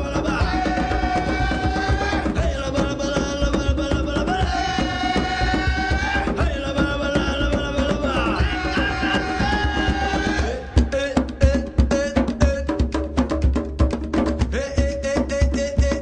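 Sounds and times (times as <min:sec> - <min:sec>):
fast hand-drum rhythm: 0:00.0 - 0:16.0.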